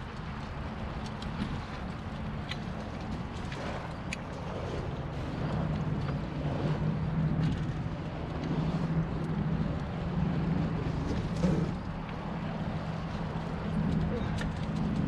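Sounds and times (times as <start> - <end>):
low hum: 0.0 - 15.0
water around hulls: 0.0 - 15.0
wind on microphone: 0.0 - 15.0.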